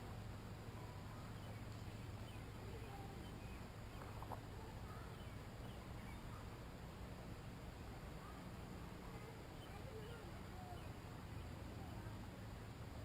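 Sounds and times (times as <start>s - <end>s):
low steady rumble: 0.0s - 13.0s
faint bird chirps: 0.7s - 12.4s.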